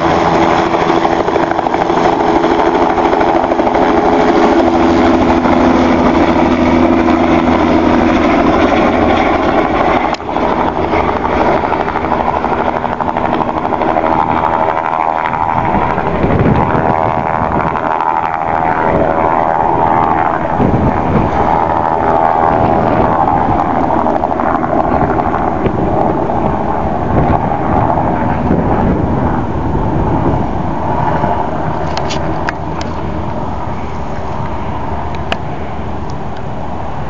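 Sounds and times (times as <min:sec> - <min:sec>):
helicopter rotor and turbine: 0:00.0 - 0:37.0.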